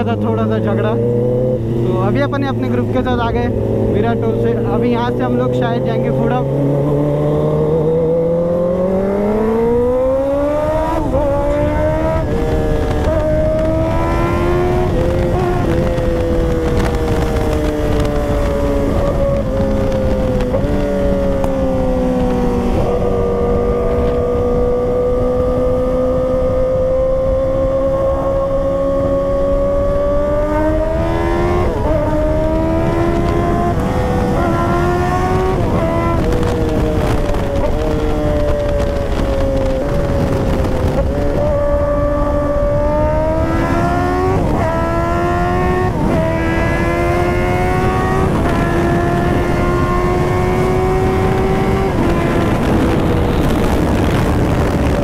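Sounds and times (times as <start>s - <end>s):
motorcycle engine accelerating: 0.0s - 55.0s
wind rush: 0.0s - 55.0s.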